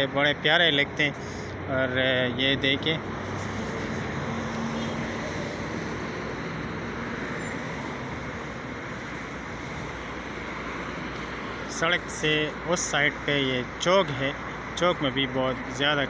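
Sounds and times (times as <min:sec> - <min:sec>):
cars passing on street: 0:00.0 - 0:16.0.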